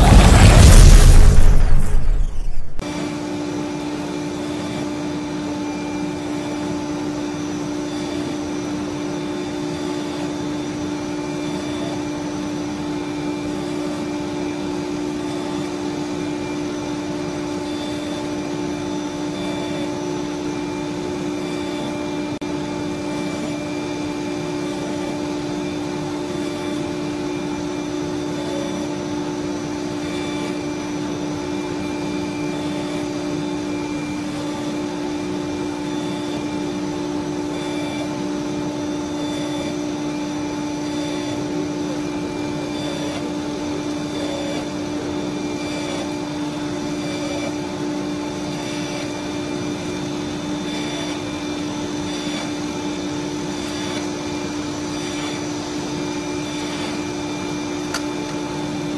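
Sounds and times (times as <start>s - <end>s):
cnc router whine: 2.8s - 58.9s.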